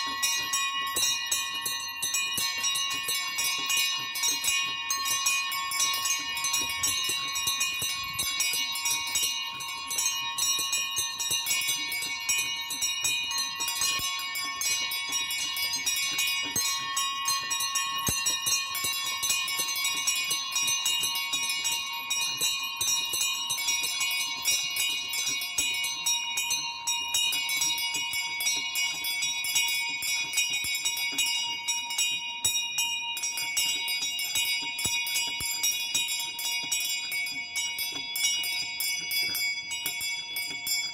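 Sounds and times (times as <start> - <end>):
small high-pitched bells ringing: 0.0 - 40.9.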